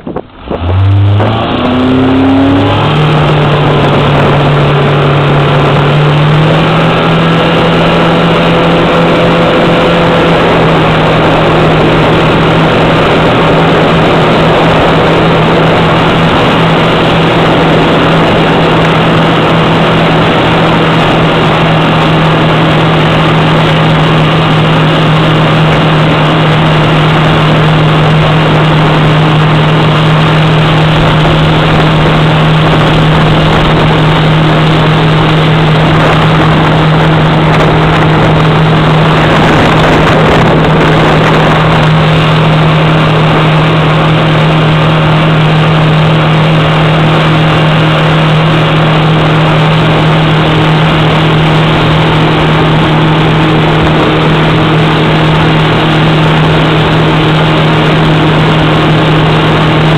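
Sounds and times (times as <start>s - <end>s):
motorboat engine revving: 0.0s - 59.9s.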